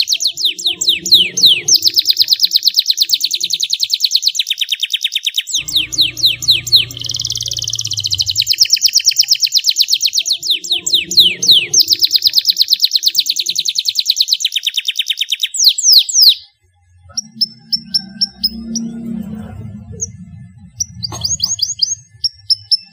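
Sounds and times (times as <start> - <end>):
canary singing trills: 0.0 - 22.9.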